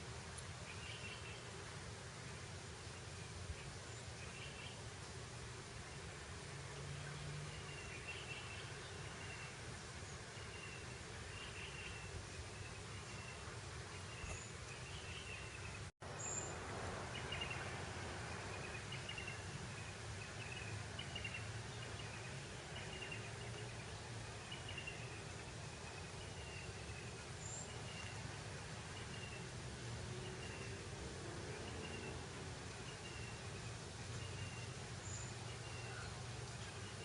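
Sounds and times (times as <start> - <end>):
breeze over grassland: 0.0 - 37.0.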